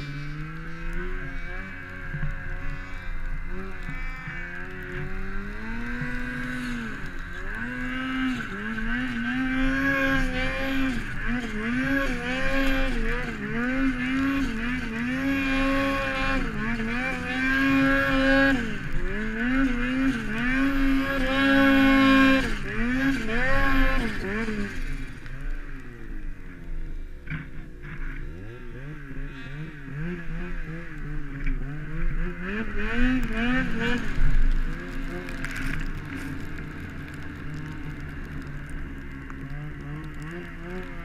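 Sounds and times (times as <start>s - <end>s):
snowmobile engine revving: 0.0s - 26.6s, 27.3s - 41.0s.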